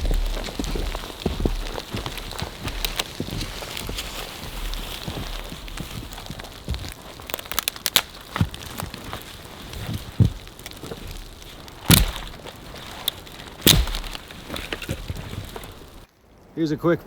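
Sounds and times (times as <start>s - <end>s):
precipitation patter: 0.0s - 16.1s
sharp cracks and thumps: 0.0s - 16.1s.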